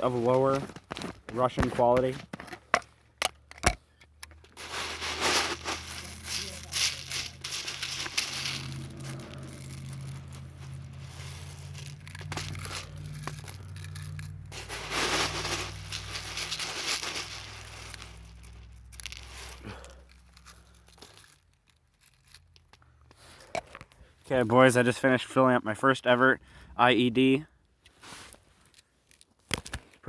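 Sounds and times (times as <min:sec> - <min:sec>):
crinkling and rustling handling: 0:00.0 - 0:25.4, 0:27.2 - 0:30.0.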